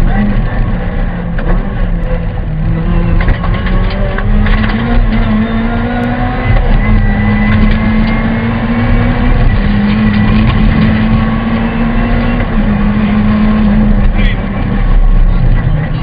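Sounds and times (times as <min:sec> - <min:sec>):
car engine at high revs: 0:00.0 - 0:16.0
tyre and road rumble: 0:00.0 - 0:16.0.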